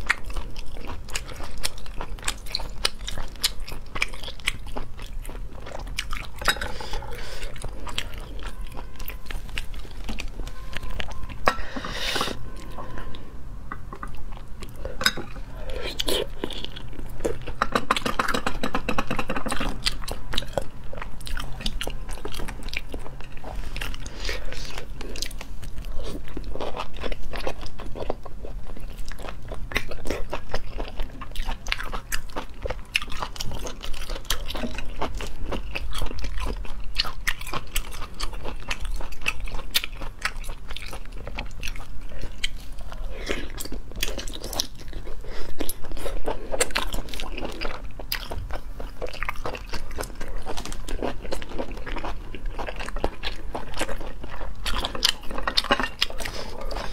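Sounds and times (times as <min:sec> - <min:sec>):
biting and chewing: 0:00.0 - 0:56.9.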